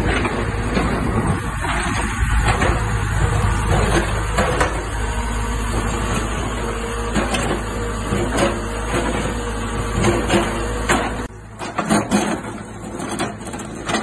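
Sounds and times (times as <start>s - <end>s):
bucket scraping asphalt and earth: 0.0s - 14.0s
diesel engine running: 0.0s - 14.0s.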